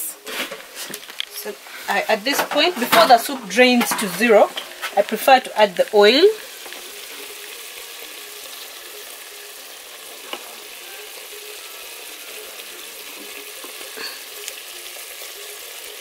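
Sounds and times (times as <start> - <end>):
liver sizzling in metal pot: 0.0 - 16.0.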